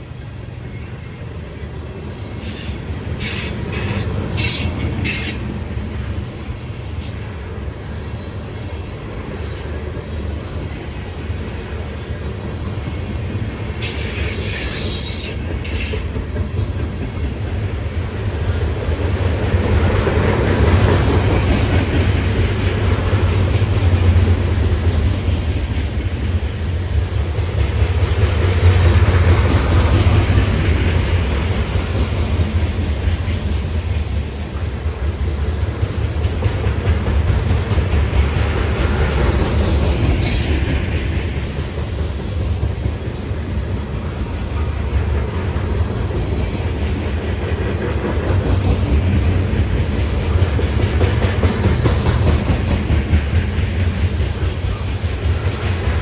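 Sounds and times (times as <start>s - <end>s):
freight train clattering past: 0.0s - 56.0s.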